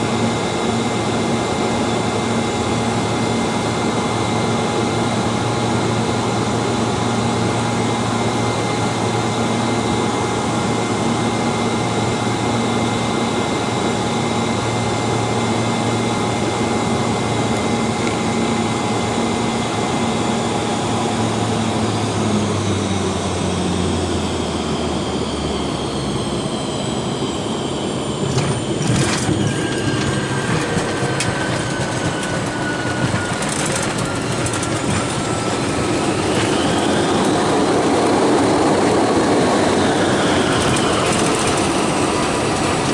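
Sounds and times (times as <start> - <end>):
falling and rising whine: 0.0 - 42.9
jet engine hum: 0.0 - 42.9.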